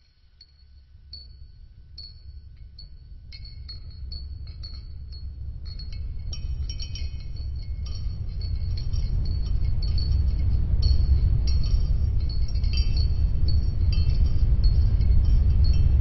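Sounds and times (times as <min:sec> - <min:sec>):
low rumble: 0:00.6 - 0:16.0.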